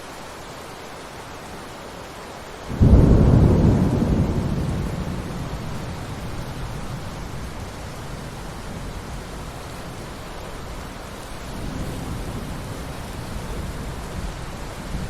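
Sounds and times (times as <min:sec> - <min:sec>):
steady rain falling: 0:00.0 - 0:15.0
low rumble of thunder: 0:02.7 - 0:15.0.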